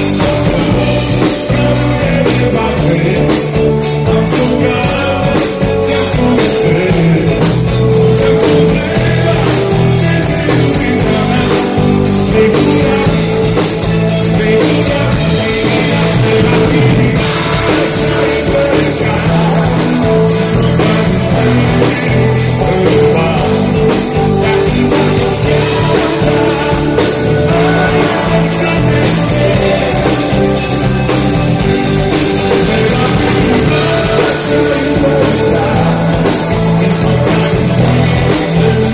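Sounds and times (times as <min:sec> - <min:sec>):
bass guitar: 0:00.0 - 0:38.9
drum kit: 0:00.0 - 0:38.9
electric guitar: 0:00.0 - 0:38.9
man singing: 0:00.0 - 0:38.9.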